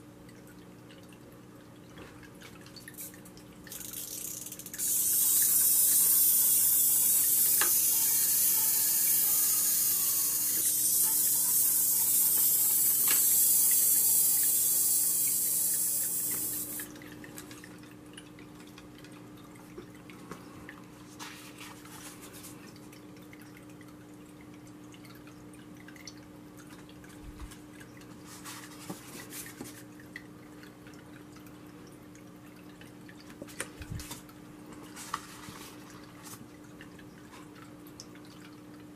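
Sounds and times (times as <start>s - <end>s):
water drips: 0.0s - 8.4s, 12.1s - 38.9s.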